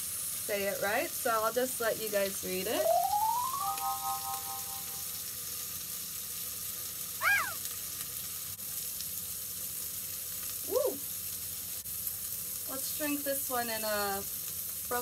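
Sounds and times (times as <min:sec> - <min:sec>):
onion sizzling in a pot: 0:00.0 - 0:15.0.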